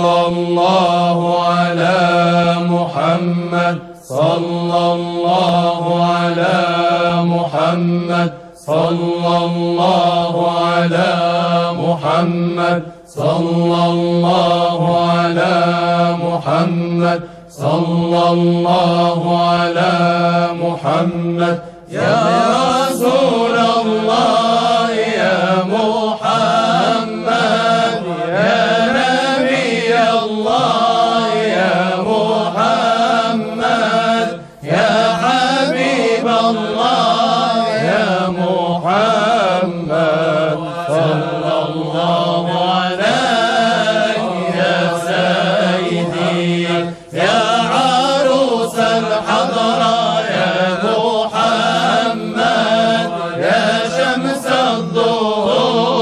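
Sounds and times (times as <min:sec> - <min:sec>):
voices chanting a hymn: 0:00.0 - 0:56.0.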